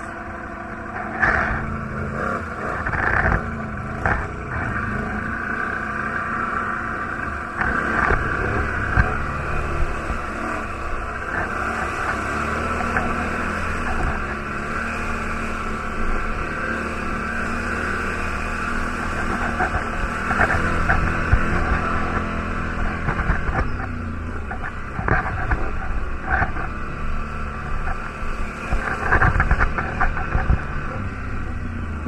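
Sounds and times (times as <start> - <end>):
quad bike engine running: 0.0 - 32.0.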